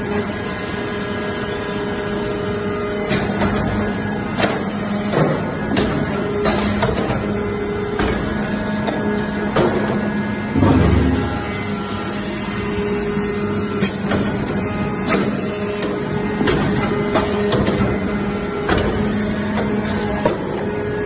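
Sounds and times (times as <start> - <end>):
hydraulic unit humming: 0.0 - 21.0.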